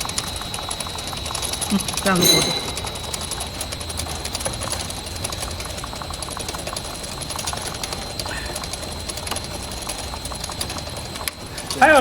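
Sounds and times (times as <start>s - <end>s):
faint high whine: 0.0s - 10.0s
low machinery hum: 0.0s - 12.0s
machinery ticking: 0.0s - 12.0s.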